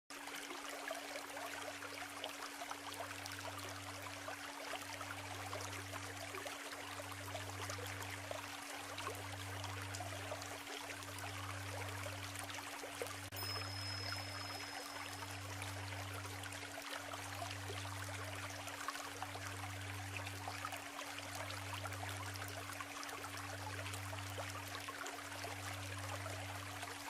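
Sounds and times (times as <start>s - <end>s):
steady low hum: 3.0s - 27.0s.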